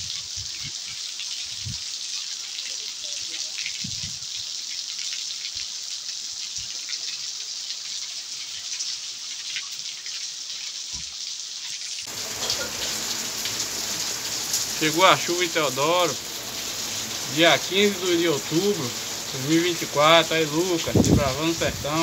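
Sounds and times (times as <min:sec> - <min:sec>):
heavy rain pouring on street: 0:00.0 - 0:22.0.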